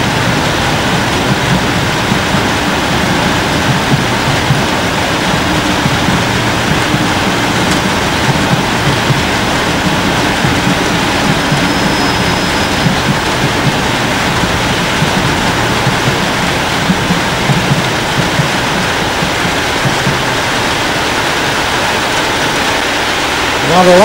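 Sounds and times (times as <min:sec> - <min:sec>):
diesel locomotives rumbling past: 0:00.0 - 0:24.0
heavy rain pouring: 0:00.0 - 0:24.0.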